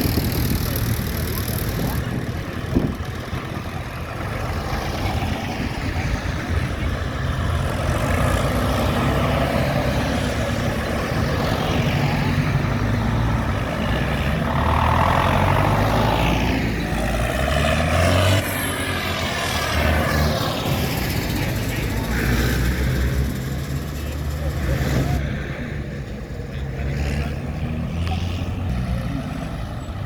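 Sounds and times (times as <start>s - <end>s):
tractor diesel engines passing: 0.0s - 30.0s.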